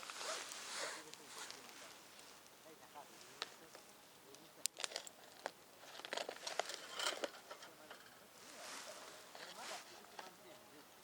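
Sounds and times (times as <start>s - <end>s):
crinkling and rustling: 0.0s - 2.5s, 3.2s - 10.9s.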